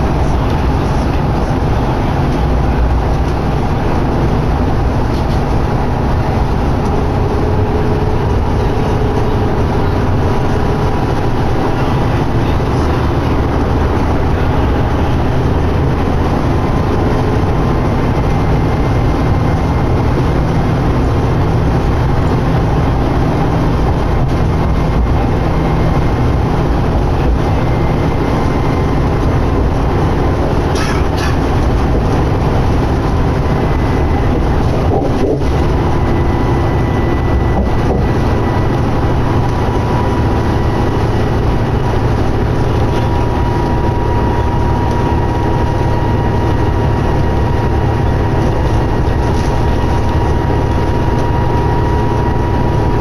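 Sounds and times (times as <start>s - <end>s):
bus engine and road noise drone: 0.0s - 53.0s
faint whine: 0.0s - 53.0s.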